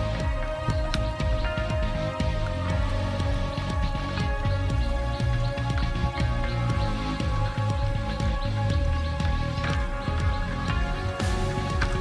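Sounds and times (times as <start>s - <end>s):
low drum thumps: 0.0s - 12.0s.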